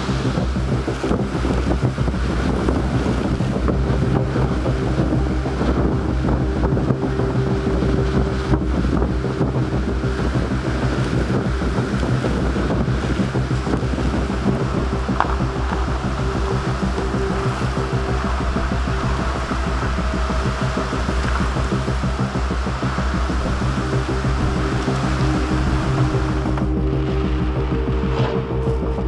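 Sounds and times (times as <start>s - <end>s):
low musical drone: 0.0s - 29.0s
wind gusting and howling: 0.0s - 29.0s.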